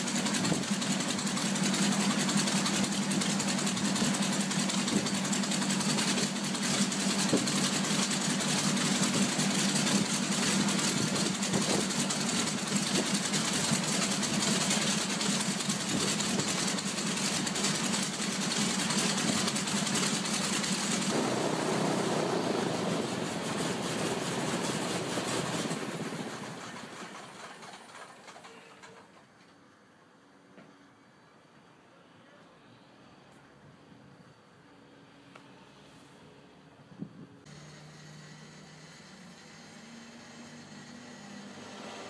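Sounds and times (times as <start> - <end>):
radial aircraft engine running: 0.0 - 29.2, 37.5 - 42.0.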